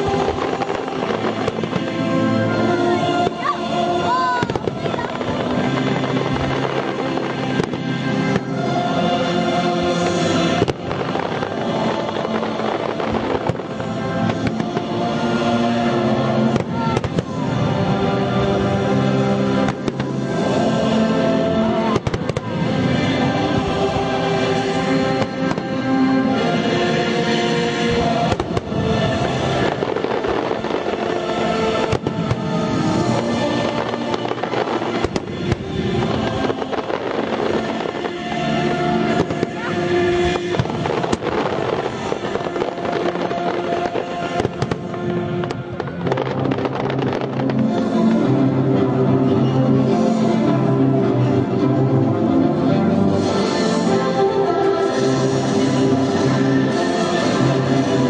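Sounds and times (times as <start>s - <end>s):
fireworks bangs: 0.0s - 26.8s, 27.4s - 48.3s
fireworks crackling: 0.0s - 58.0s
loud music: 0.0s - 58.0s.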